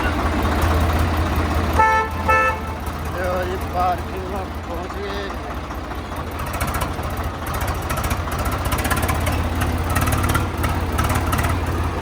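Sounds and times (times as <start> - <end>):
tractor diesel engine throbbing: 0.0 - 12.0.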